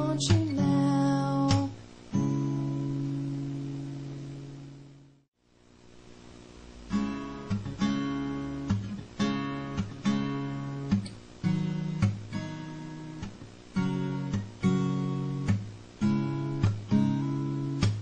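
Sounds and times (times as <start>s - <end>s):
acoustic guitar strumming: 0.0s - 5.1s, 6.8s - 18.0s.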